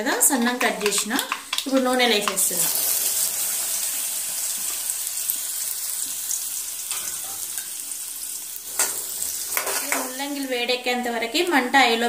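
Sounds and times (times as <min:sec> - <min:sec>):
radish sizzling in hot oil: 0:00.0 - 0:12.0.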